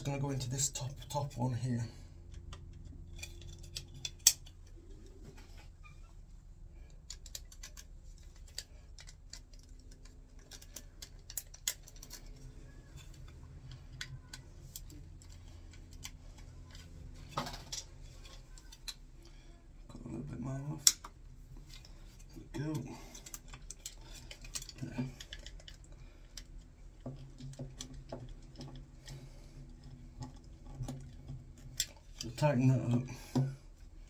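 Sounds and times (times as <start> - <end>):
low steady hum: 0.0 - 34.0
wires and tools handling clicks: 0.2 - 34.0.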